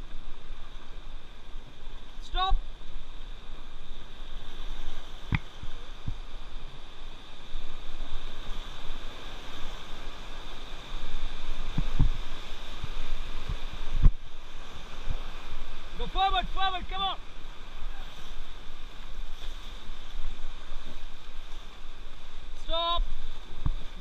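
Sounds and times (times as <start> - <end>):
river water rushing: 0.0 - 24.0
wind buffeting microphone: 0.0 - 24.0.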